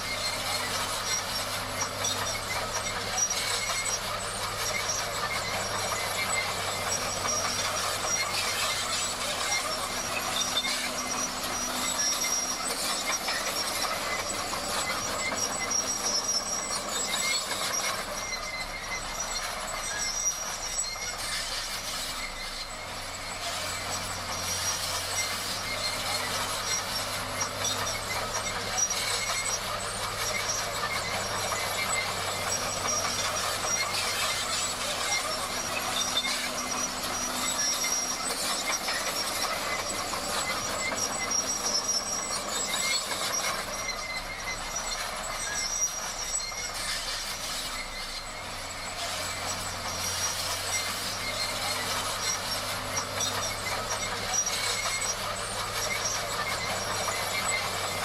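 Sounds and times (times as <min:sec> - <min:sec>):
bulldozer diesel engine running: 0:00.0 - 0:58.0
high squeals from undercarriage: 0:00.0 - 0:58.0
steel tracks clattering: 0:00.0 - 0:58.0.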